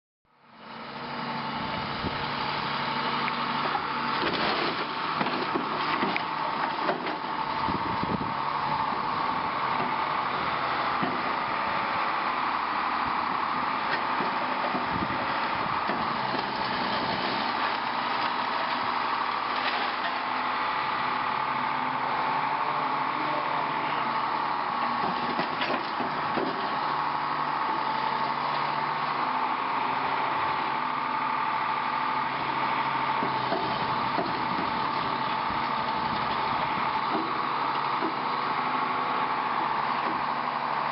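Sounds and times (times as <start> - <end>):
engine running: 0.3 - 40.9.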